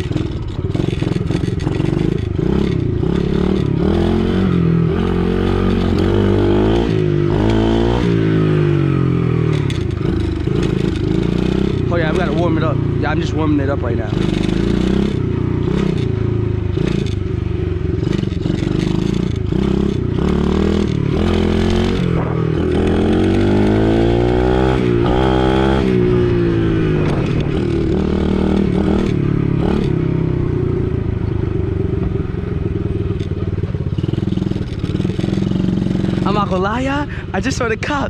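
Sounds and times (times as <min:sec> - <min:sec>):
dirt bike engine revving: 0:00.0 - 0:31.2, 0:32.8 - 0:38.0.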